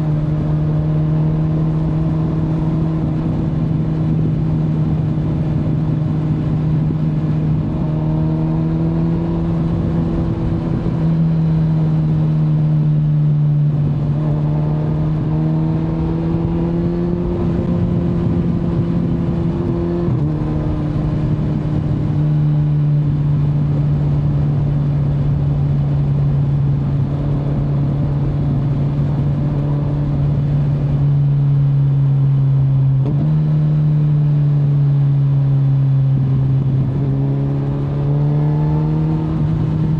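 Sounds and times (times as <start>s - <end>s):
wind noise: 0.0s - 33.6s, 34.4s - 39.9s
motorcycle engine running: 0.0s - 39.9s.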